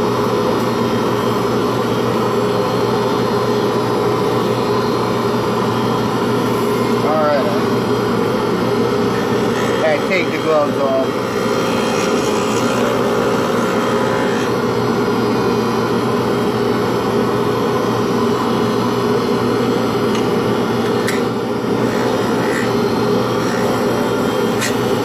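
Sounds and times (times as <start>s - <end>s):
dust extraction vacuum: 0.0s - 25.0s
wood lathe whirring: 3.0s - 25.0s.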